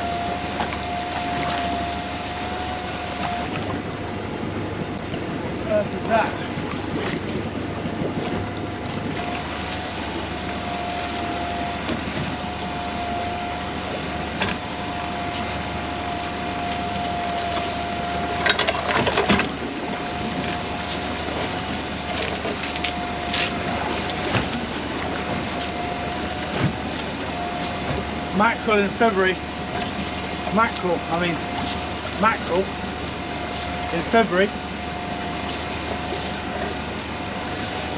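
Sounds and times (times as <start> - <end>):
steady mechanical whine: 0.0 - 37.9.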